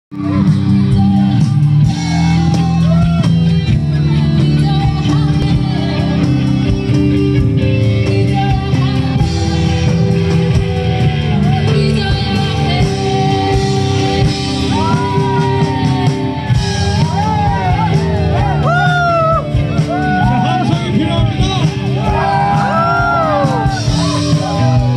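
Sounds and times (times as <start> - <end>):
electric guitars: 0.1 - 24.9
person singing: 0.1 - 24.9
steady drum beat: 0.1 - 24.9.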